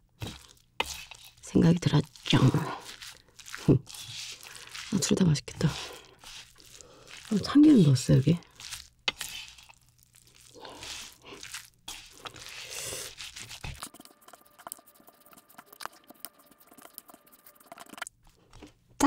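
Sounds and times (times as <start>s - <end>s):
rice mixing in a bowl: 0.2s - 18.7s.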